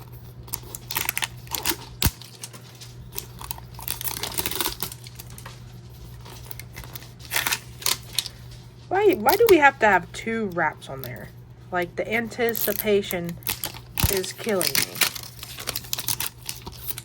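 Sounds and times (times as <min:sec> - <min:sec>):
plastic wrap crinkling: 0:00.0 - 0:10.0, 0:12.1 - 0:17.0.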